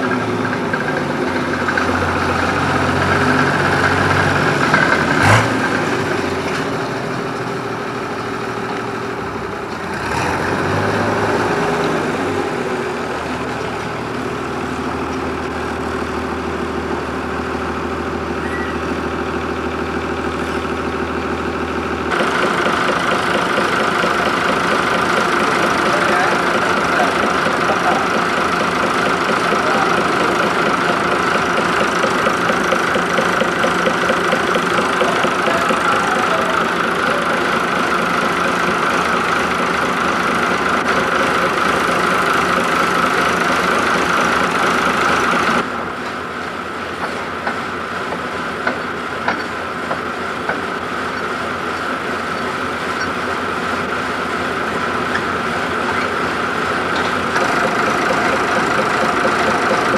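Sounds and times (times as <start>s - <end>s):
engine drone: 0.0s - 59.9s.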